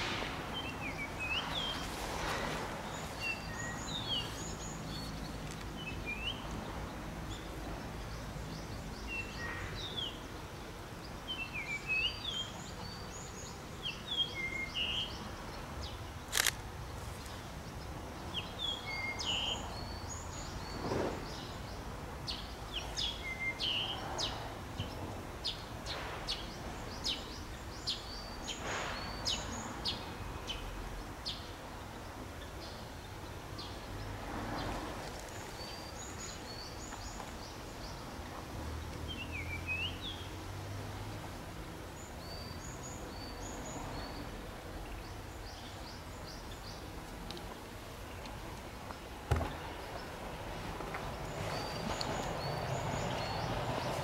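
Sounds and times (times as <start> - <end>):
small birds chirping: 0.0 - 40.6, 41.6 - 54.0
faint outdoor background noise: 0.0 - 54.0.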